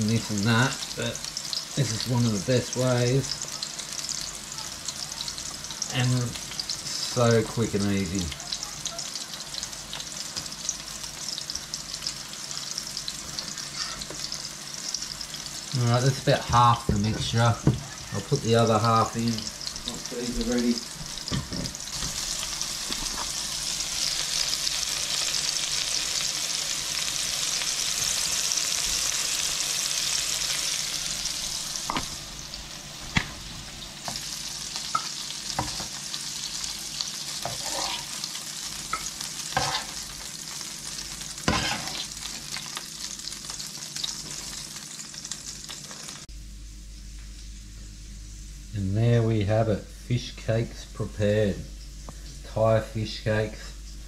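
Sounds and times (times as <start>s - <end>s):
fish cakes sizzling in pan: 0.0s - 54.0s.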